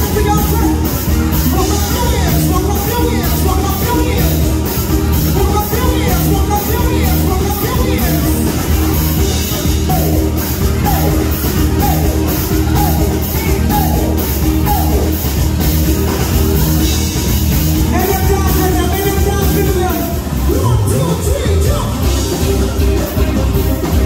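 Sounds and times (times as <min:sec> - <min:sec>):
song with beat and singing: 0:00.0 - 0:24.0.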